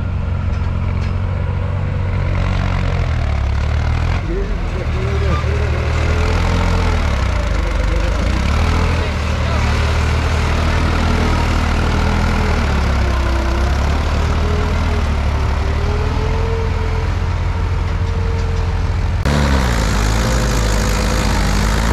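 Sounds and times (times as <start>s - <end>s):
tractor diesel engine under load: 0.0s - 21.9s.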